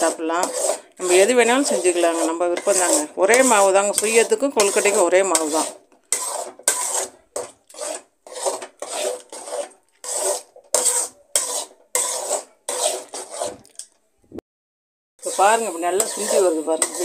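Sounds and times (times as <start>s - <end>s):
metal ladle scraping a pan: 0.0s - 13.9s, 15.2s - 17.0s.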